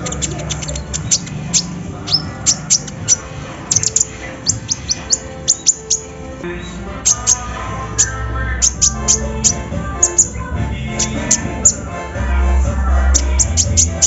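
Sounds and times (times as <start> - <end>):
bird chirping rapidly: 0.0 - 12.0, 13.0 - 14.0.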